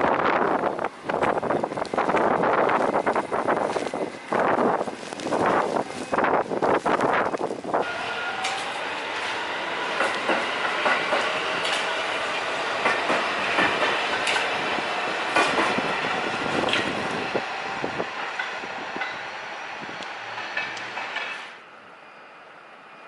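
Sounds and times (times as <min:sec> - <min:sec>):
wheels clicking over rail joints: 0:00.0 - 0:17.3, 0:20.0 - 0:21.6
subway train running on rails: 0:00.0 - 0:23.0.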